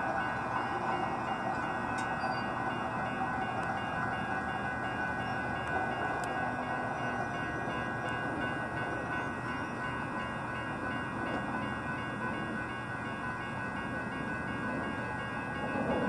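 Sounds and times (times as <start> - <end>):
crossing warning bells ringing: 0.0 - 16.0.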